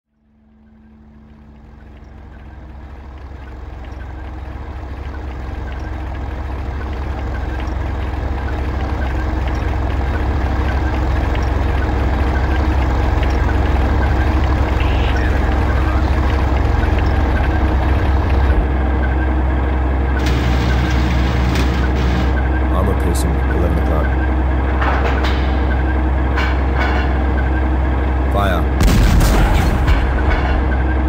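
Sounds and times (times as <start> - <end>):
faint steady hum: 0.1 - 31.0.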